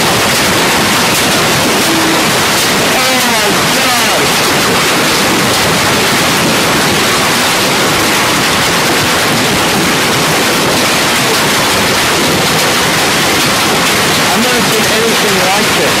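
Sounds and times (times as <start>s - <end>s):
heavy hail pelting down: 0.0s - 16.0s.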